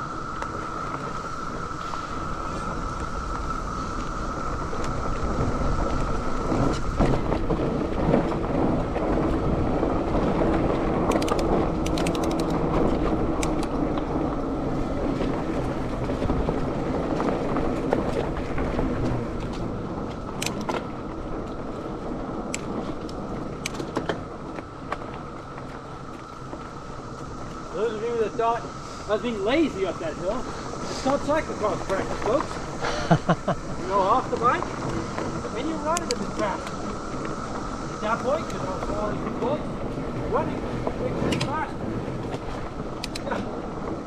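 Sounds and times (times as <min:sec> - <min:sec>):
cicadas droning: 0:00.0 - 0:44.0
wind on microphone: 0:00.0 - 0:44.0
bike clicks and rattles: 0:00.4 - 0:27.7, 0:29.5 - 0:44.0.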